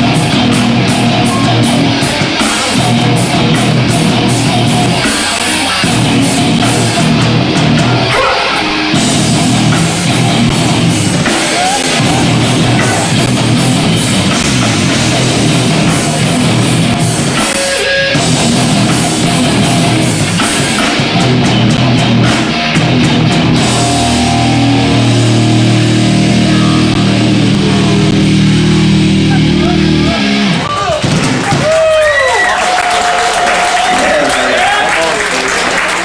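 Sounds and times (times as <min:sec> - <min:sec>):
distorted electric guitars: 0:00.0 - 0:31.9
drum kit: 0:00.0 - 0:32.4.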